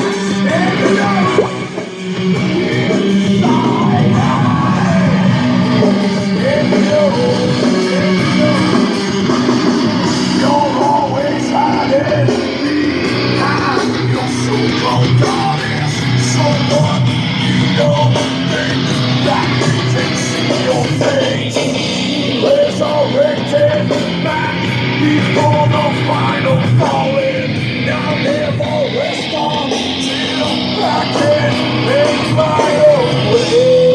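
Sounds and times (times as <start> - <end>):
rock music with guitar and singing: 0.0 - 33.9.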